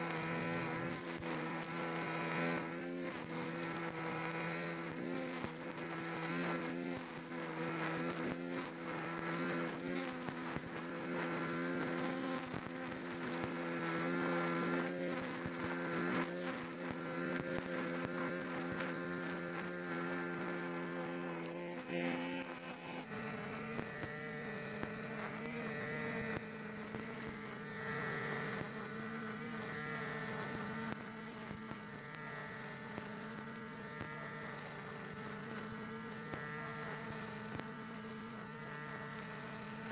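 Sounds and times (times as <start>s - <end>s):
brush cutter engine running: 0.0s - 33.2s.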